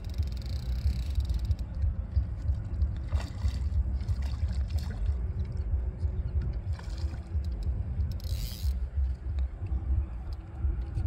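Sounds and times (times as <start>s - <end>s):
unsteady low rumble: 0.0s - 11.0s
water splashing and sloshing: 0.0s - 11.0s.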